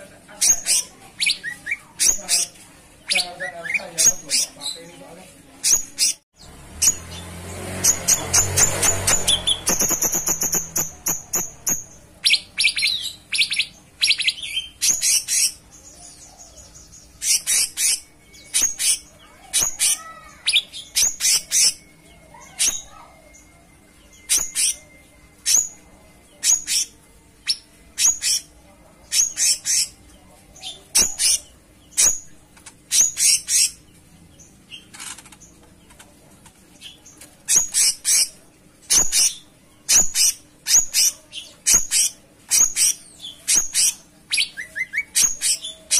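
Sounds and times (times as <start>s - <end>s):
songbird chirping: 0.1s - 45.9s.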